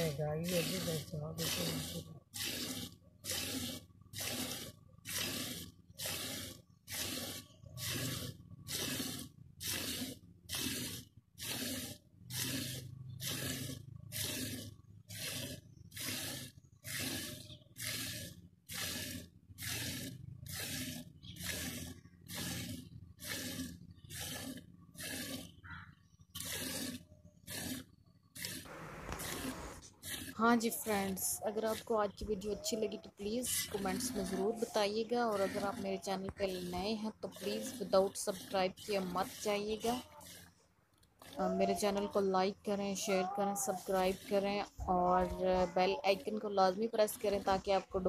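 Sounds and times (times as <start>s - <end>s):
milk squirting into metal pot: 0.0s - 25.6s, 26.3s - 27.8s, 28.4s - 48.0s.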